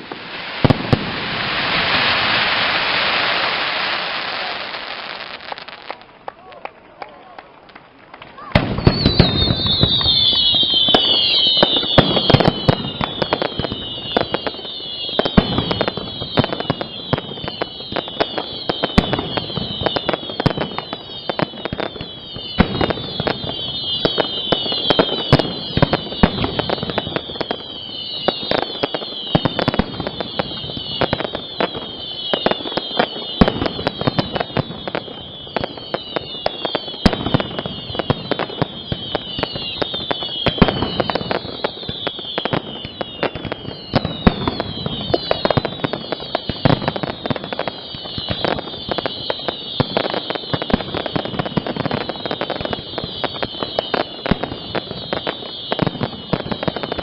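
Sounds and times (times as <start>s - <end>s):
falling firework whistles: 0.0s - 6.0s, 8.4s - 57.0s
firework bangs and crackles: 0.0s - 57.0s.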